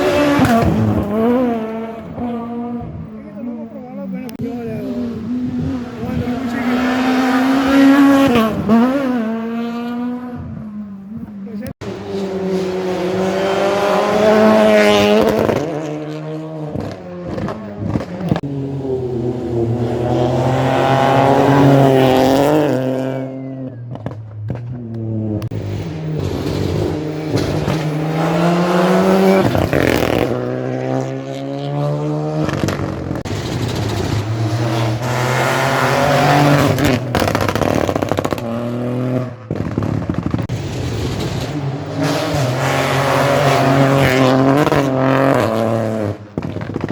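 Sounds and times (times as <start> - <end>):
rally car engines revving past: 0.0 - 46.9.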